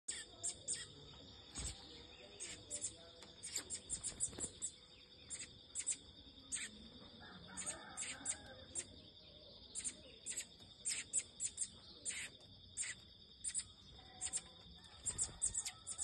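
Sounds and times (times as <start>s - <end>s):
small birds chirping: 0.0s - 16.0s
high-pitched insect drone: 0.1s - 6.9s, 7.5s - 9.0s, 9.7s - 16.0s.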